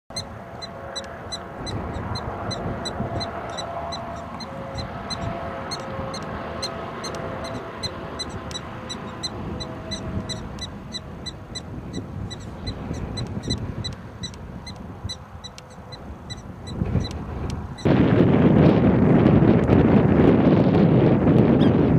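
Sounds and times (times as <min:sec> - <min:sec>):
wind rumble on microphone: 0:00.1 - 0:21.9.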